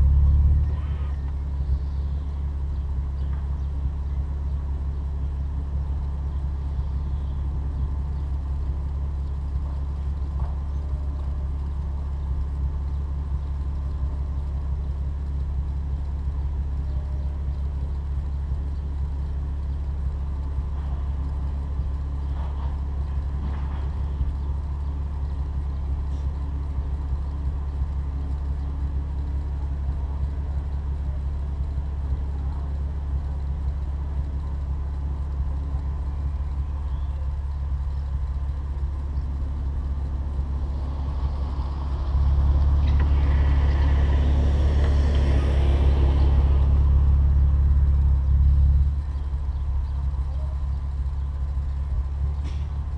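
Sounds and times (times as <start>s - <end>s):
car engine droning steadily: 0.0s - 52.9s.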